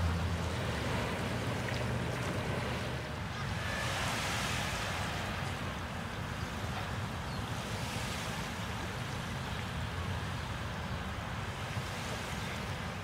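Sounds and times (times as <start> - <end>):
small waves washing on beach: 0.0 - 13.0.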